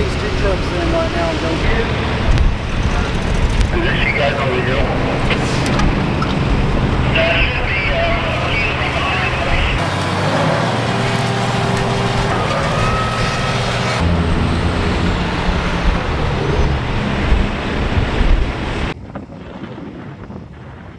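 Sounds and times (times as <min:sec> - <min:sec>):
fire truck engines humming: 0:00.0 - 0:19.0.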